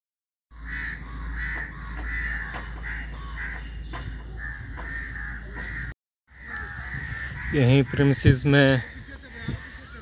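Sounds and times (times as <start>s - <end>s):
crows cawing: 0.5s - 10.0s.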